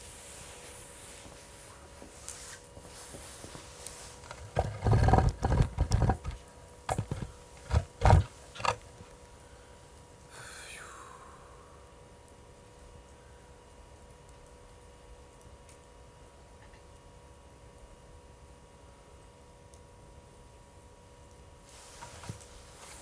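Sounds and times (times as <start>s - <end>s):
campfire burning with hiss: 0.0s - 5.1s, 8.3s - 23.0s.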